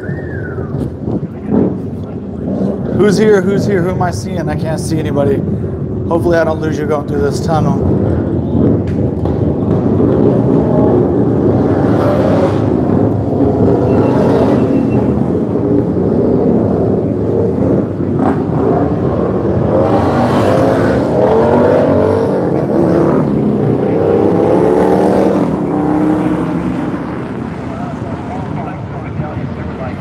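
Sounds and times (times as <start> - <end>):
race motorcycles accelerating: 0.0 - 30.0.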